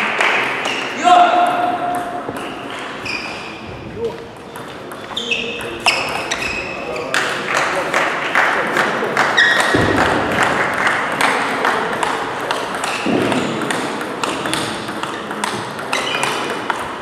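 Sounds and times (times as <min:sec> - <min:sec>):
table tennis balls clicking: 0:01.5 - 0:03.0, 0:04.2 - 0:17.0.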